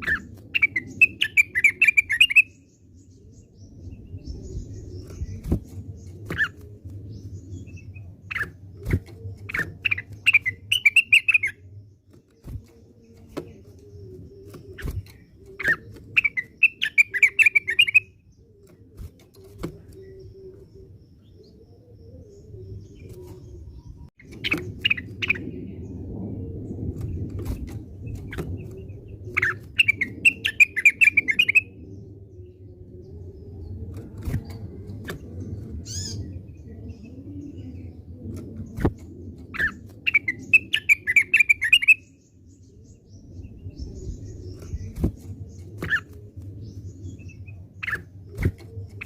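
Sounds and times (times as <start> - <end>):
bird chirping and warbling: 0.0 - 49.0.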